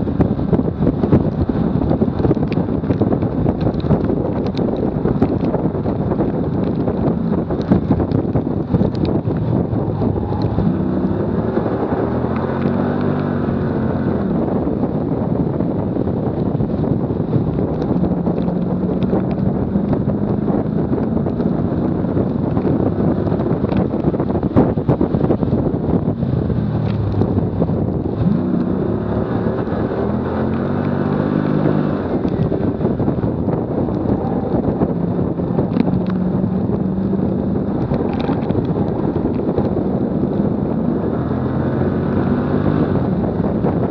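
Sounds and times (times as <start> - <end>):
car engine revving: 0.0 - 43.9
tyres roaring on asphalt: 0.0 - 43.9
wind noise on microphone: 0.0 - 43.9.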